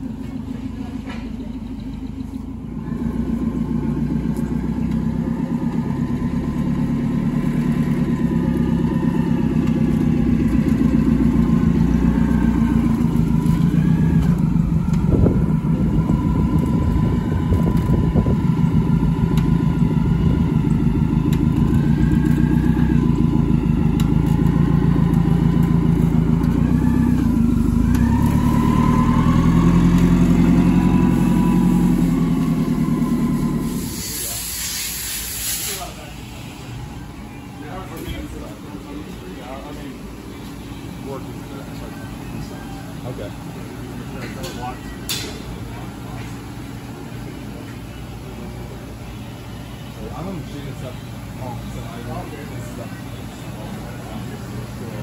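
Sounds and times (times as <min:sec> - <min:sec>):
forklift engine whining: 0:00.0 - 0:55.0.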